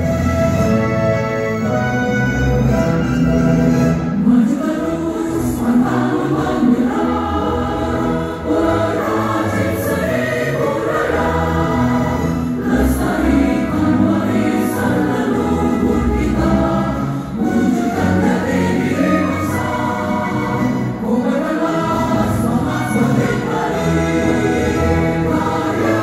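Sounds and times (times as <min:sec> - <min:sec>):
piano accompaniment: 0:00.0 - 0:26.0
women's choir singing a march: 0:04.2 - 0:26.0.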